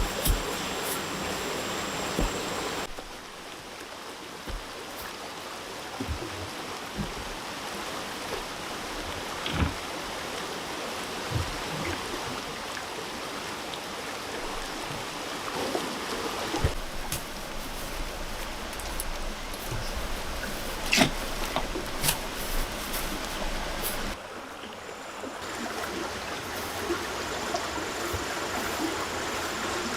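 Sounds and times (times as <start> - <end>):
flowing water rushing: 0.0 - 29.9.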